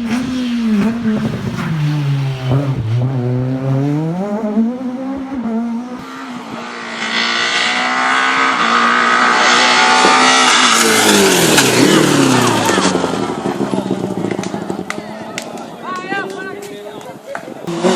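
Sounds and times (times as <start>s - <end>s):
rally car engine revving: 0.0s - 16.4s, 17.6s - 17.9s.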